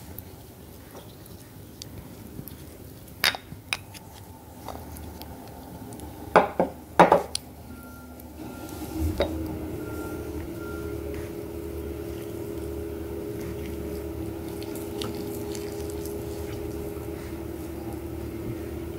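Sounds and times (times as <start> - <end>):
steady hum: 1.6 - 18.9.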